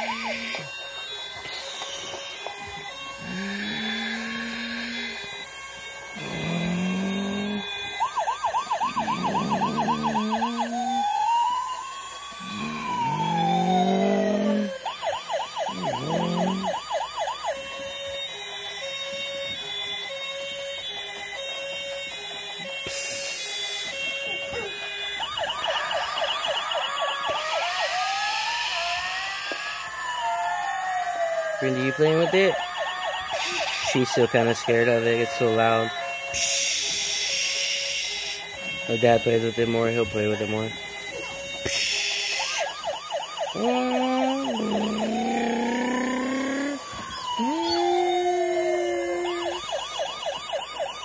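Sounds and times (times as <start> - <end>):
toy siren warbling and wailing: 0.0 - 51.0.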